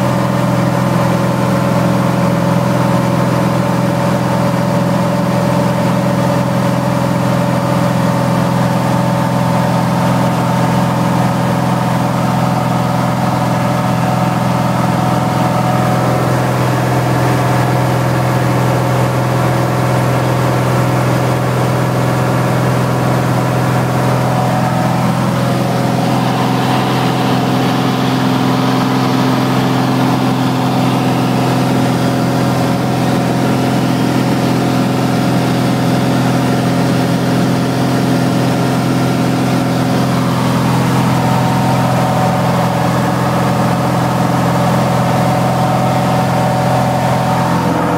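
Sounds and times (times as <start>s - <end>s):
light aircraft engine droning: 9.1s - 47.9s.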